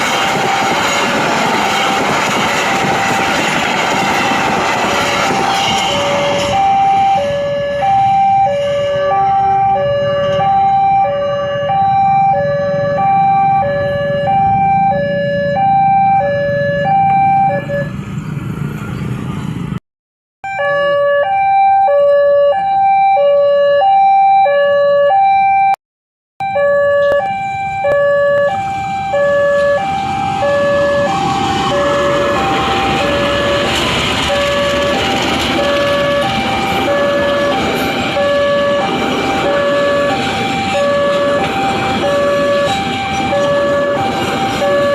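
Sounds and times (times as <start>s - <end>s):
two-tone crossing alarm: 0.0s - 18.0s, 20.4s - 25.8s, 26.4s - 44.9s.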